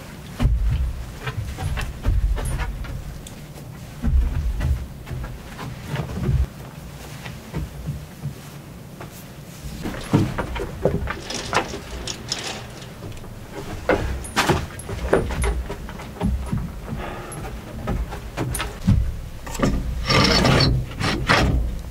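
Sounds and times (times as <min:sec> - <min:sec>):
bedding rustling: 0:00.0 - 0:21.9
knocks and bumps against wood: 0:00.3 - 0:06.6, 0:09.7 - 0:21.9.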